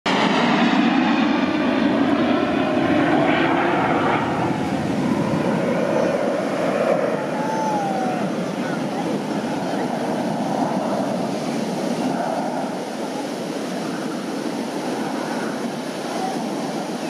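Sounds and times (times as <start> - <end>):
small planes flying overhead: 0.1 - 17.0.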